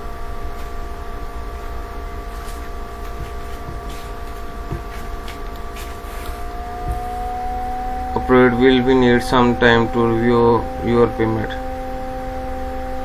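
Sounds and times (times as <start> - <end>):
background hum: 0.0 - 13.0
faint whining tones: 0.0 - 13.0.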